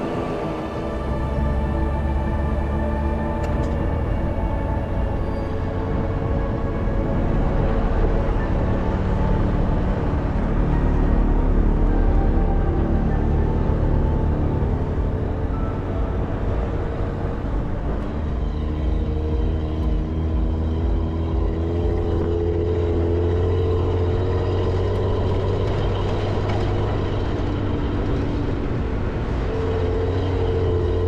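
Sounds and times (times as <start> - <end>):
vehicle engine running: 0.0 - 31.0
wind: 0.0 - 31.0.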